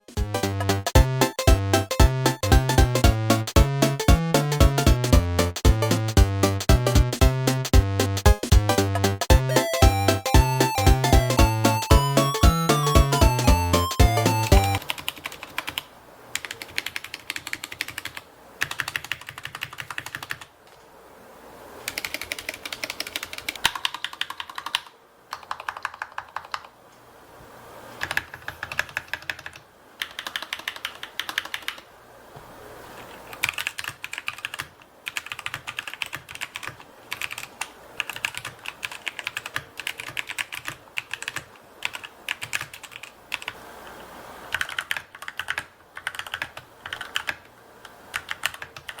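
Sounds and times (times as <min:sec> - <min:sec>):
mechanical keyboard typing: 0:00.3 - 0:20.5, 0:21.8 - 0:26.7, 0:28.0 - 0:31.8, 0:33.4 - 0:43.6, 0:44.5 - 0:47.5, 0:48.1 - 0:49.0.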